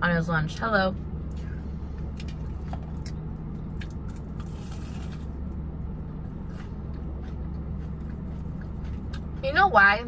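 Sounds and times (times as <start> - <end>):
low car hum: 0.0 - 10.0
chewing and crunching food: 1.2 - 10.0.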